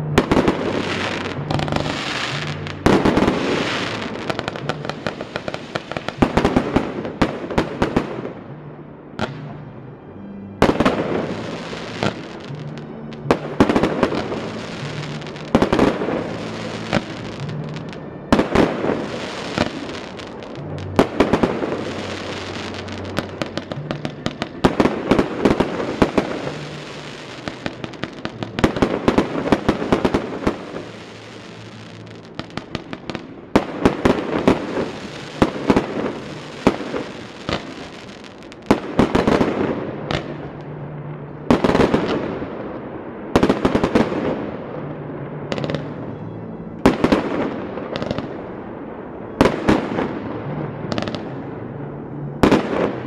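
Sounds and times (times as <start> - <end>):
fireworks bangs: 0.0 - 8.5, 10.6 - 53.0
fireworks crackling: 0.0 - 8.5, 10.6 - 53.0.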